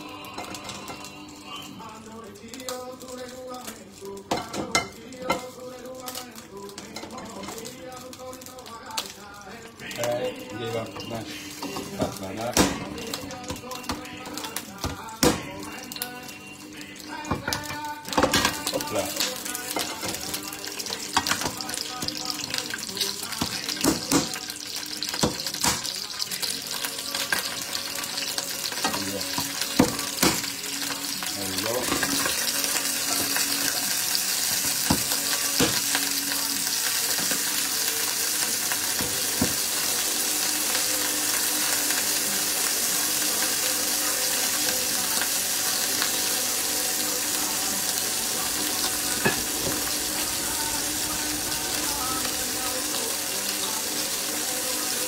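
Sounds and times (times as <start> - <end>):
food sizzling in a pan: 0.0 - 55.0.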